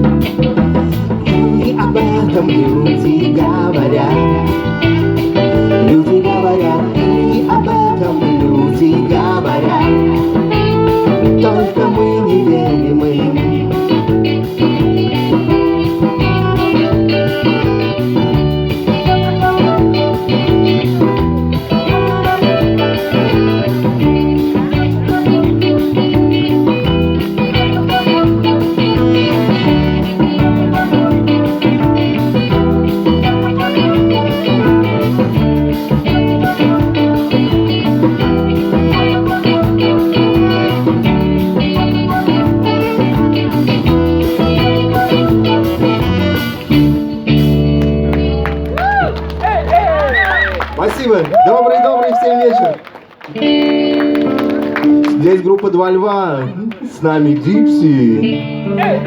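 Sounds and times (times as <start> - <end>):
electric guitar leading: 0.0 - 59.0
live band playing pop: 0.0 - 59.0.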